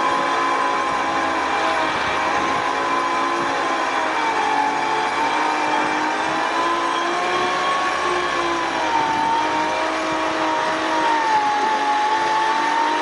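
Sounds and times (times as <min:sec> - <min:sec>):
engine running: 0:00.0 - 0:13.0
winch whine: 0:00.0 - 0:13.0.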